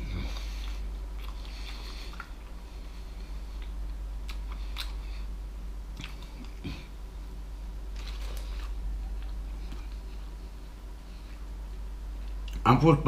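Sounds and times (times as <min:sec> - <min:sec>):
person chewing: 0:00.0 - 0:07.0, 0:07.9 - 0:11.5
steady low hum: 0:00.0 - 0:13.0.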